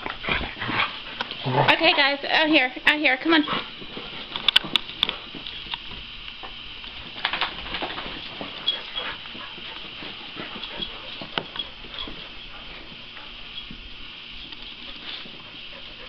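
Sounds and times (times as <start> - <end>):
dogs scuffling on carpet: 0.0 - 16.0.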